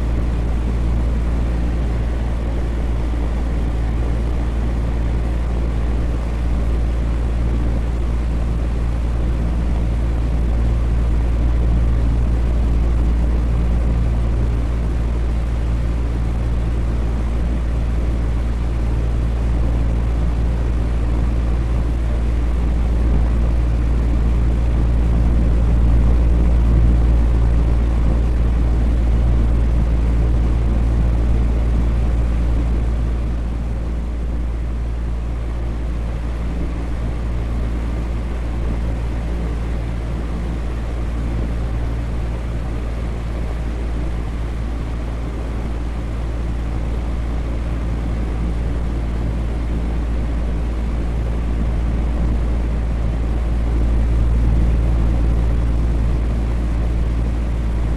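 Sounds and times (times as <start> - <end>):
electric fan humming: 0.0 - 57.9.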